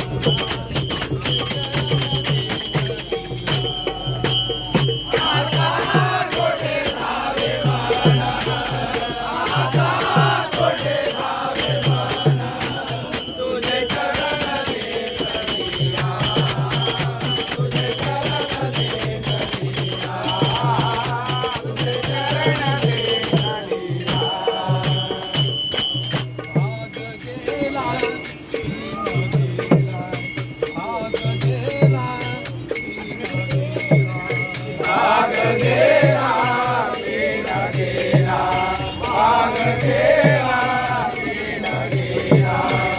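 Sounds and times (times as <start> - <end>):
drum beat: 0.0 - 42.9
group chanting devotional song: 0.0 - 42.9
small cymbals rattling: 0.0 - 42.9.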